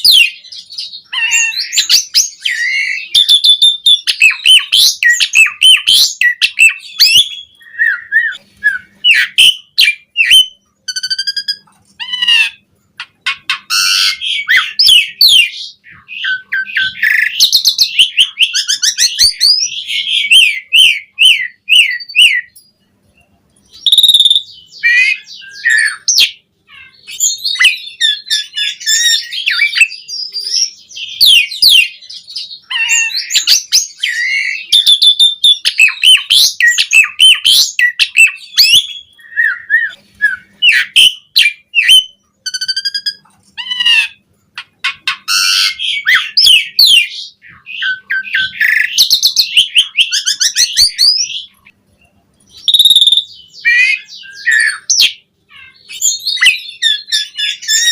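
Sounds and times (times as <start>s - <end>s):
starling singing: 0.0s - 51.8s, 52.4s - 57.9s.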